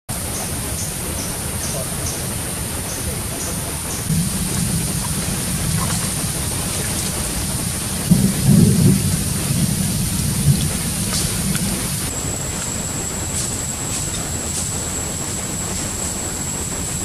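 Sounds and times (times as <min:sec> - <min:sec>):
steady rain: 0:00.1 - 0:17.0
thunder rumble: 0:00.2 - 0:17.0.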